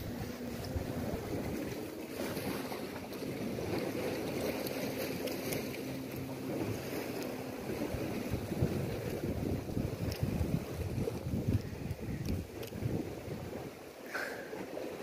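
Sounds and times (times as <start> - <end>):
wind buffeting microphone: 0.0 - 13.9
sea wash: 0.0 - 15.0.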